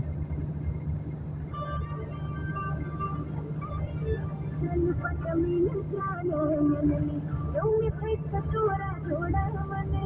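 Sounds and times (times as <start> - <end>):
truck driving rumble: 0.0 - 10.0
music: 1.5 - 10.0.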